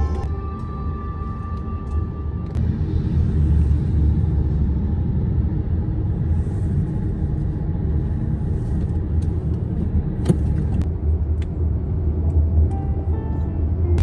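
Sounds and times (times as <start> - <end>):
road and tyre rumble in car: 0.0 - 14.0.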